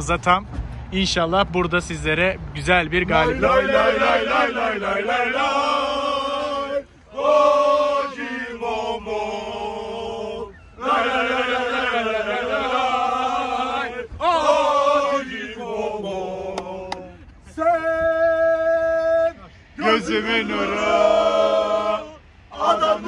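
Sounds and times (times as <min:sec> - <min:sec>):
men singing a football chant: 0:03.0 - 0:23.0.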